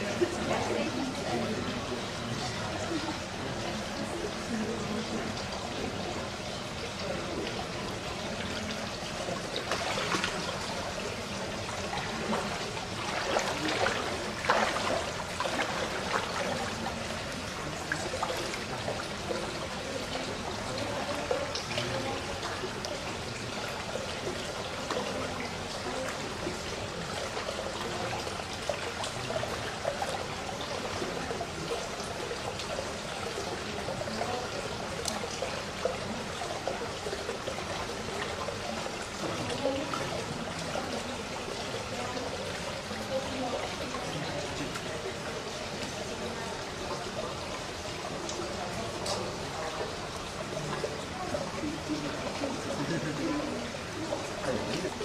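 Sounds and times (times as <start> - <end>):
water trickling and pouring: 0.0 - 55.0.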